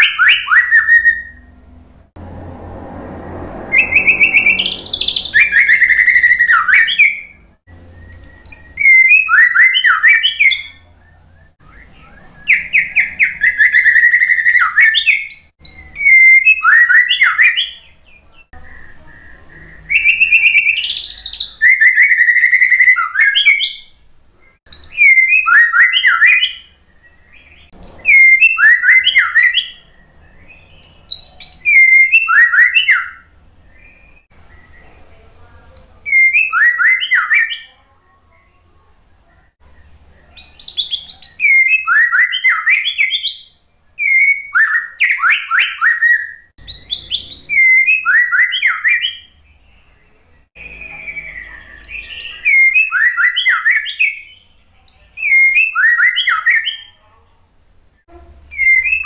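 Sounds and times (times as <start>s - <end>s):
bird singing whistles and trills: 0.0s - 1.5s, 3.8s - 35.0s, 35.8s - 37.8s, 39.8s - 57.0s, 58.5s - 59.0s.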